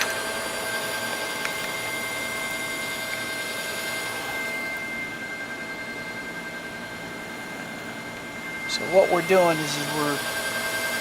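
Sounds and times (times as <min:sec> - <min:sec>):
machine hissing and whining: 0:00.0 - 0:11.0.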